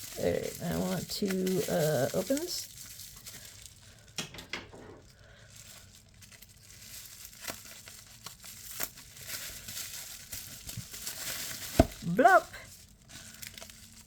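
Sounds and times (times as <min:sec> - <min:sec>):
packaging crinkling and crackling: 0:00.0 - 0:04.4, 0:05.0 - 0:14.0.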